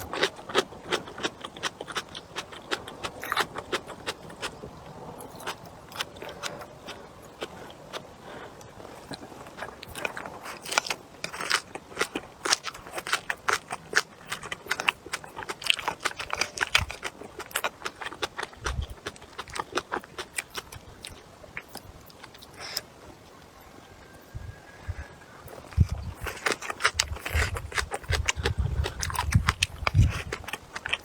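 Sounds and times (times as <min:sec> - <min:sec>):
chewing crunchy food: 0:00.0 - 0:31.0.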